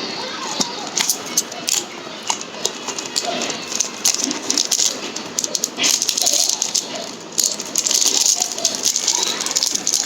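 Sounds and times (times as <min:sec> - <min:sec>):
packaging crinkling and rattling: 0:01.0 - 0:10.0.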